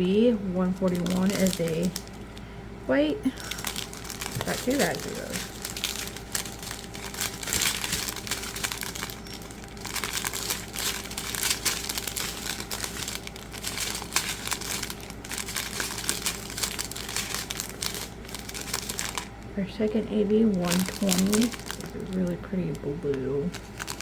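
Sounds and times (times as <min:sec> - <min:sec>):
plastic bags crinkling: 0:00.0 - 0:02.5, 0:03.2 - 0:24.0.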